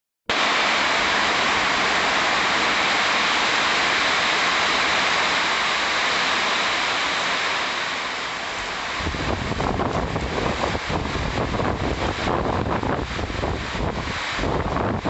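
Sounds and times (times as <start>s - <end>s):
storm rushing noise: 0.3s - 15.0s.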